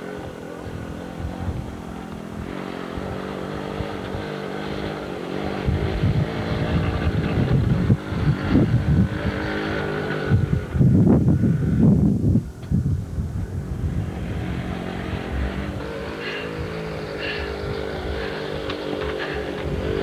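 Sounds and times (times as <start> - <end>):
dirt bike engine running: 0.0 - 20.0
rough low rumbling: 0.0 - 20.0.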